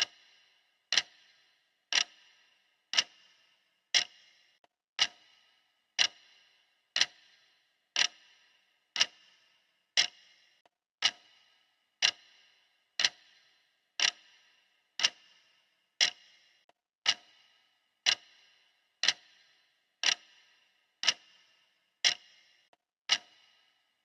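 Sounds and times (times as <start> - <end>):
clock ticking: 0.0 - 24.0.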